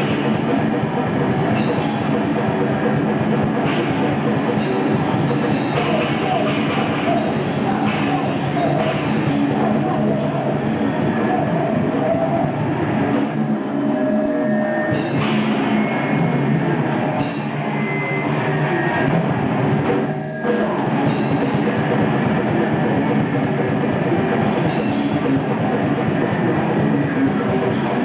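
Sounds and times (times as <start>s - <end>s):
distorted electric guitar: 0.0s - 28.0s
drum kit: 0.0s - 28.0s.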